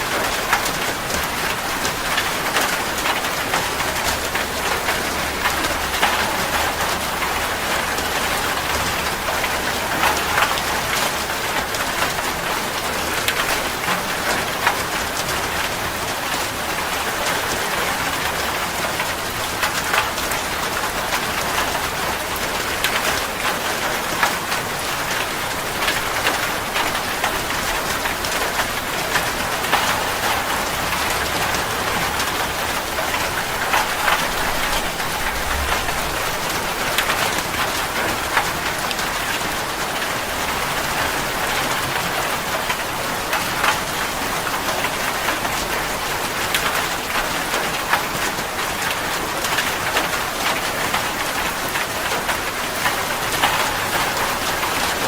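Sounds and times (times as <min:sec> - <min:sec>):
heavy rain on a surface: 0:00.0 - 0:55.0.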